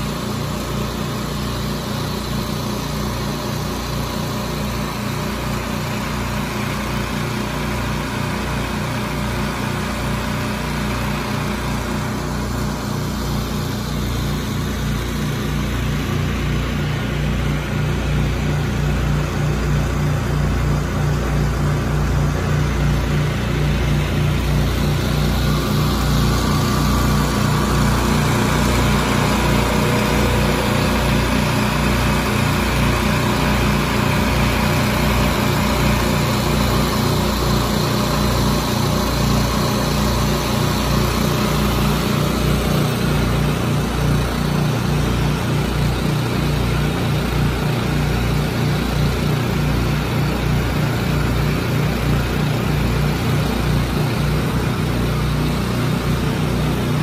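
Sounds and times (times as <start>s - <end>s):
engine running with pulsing rumble: 0.0s - 57.0s.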